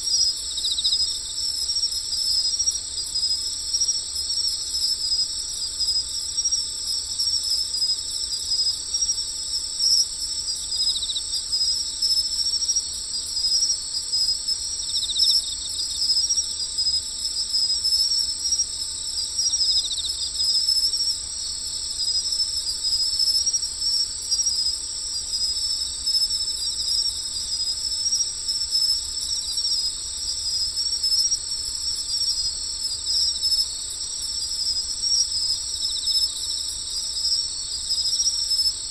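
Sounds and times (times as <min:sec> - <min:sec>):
crickets and insects chirring: 0:00.0 - 0:38.9
pulsing insect trills: 0:00.0 - 0:38.9.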